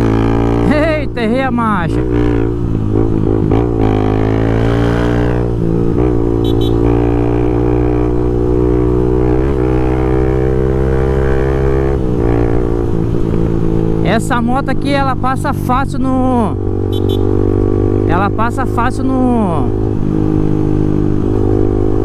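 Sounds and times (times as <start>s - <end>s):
motorcycle engine at high revs: 0.0s - 22.0s.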